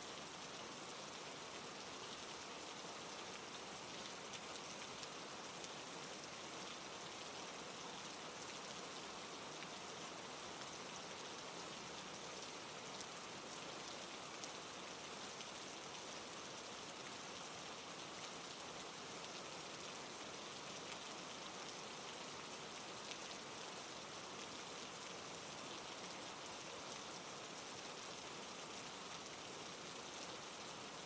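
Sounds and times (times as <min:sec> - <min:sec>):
steady rainfall: 0:00.0 - 0:31.0.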